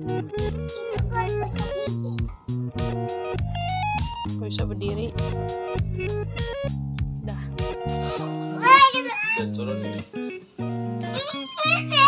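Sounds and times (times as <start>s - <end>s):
plucked guitar tune with beat: 0.0s - 12.0s.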